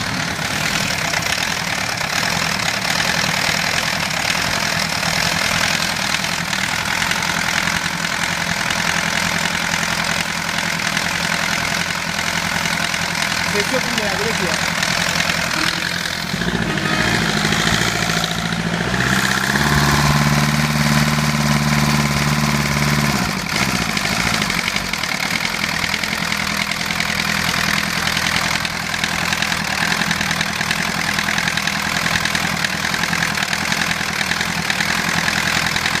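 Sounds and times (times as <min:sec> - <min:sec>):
diesel boat engine running: 0:00.0 - 0:36.0.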